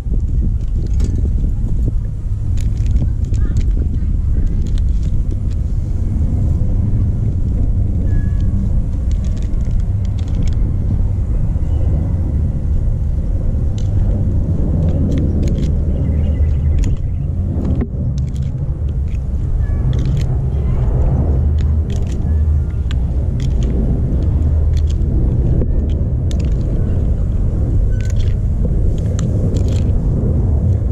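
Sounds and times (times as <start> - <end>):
low rumble: 0.0 - 30.9.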